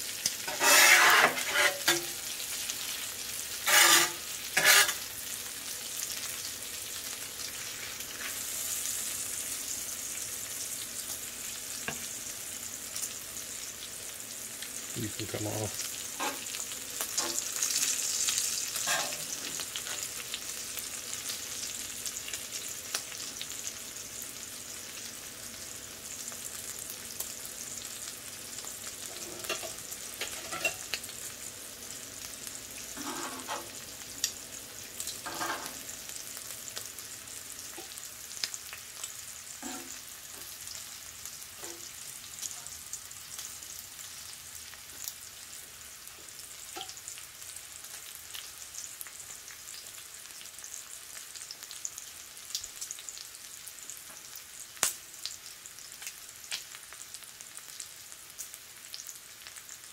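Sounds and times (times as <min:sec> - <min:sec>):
bacon and onions sizzling: 0:00.0 - 0:59.9.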